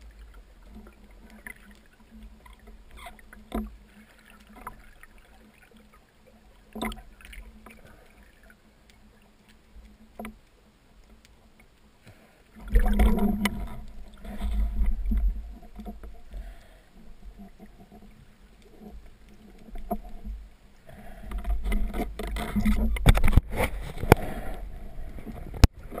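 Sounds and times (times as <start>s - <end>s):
faint steady hum: 0.0s - 26.0s
water sloshing and splashing: 0.0s - 26.0s.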